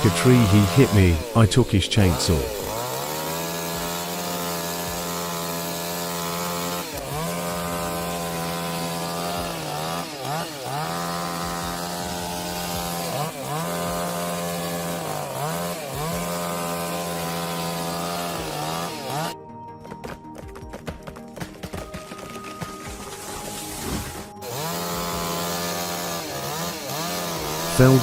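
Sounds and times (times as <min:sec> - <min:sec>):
chainsaw running at high revs: 0:00.0 - 0:19.4, 0:21.6 - 0:28.0.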